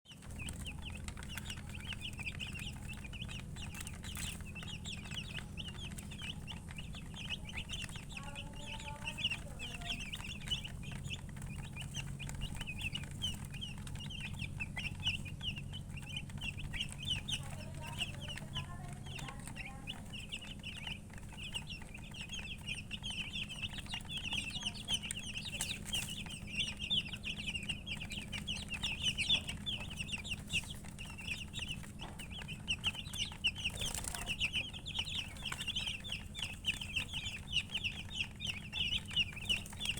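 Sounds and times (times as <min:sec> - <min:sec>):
baby chicks peeping: 0:00.0 - 0:39.9
lower bird calls: 0:00.1 - 0:39.9
steady low hum: 0:00.1 - 0:39.9.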